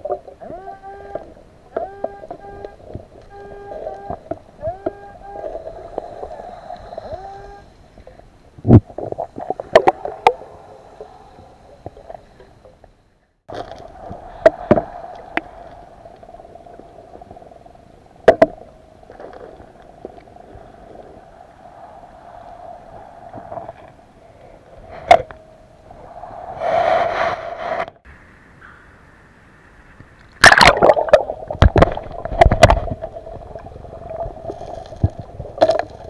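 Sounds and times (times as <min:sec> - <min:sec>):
underwater hum: 0:00.0 - 0:36.0.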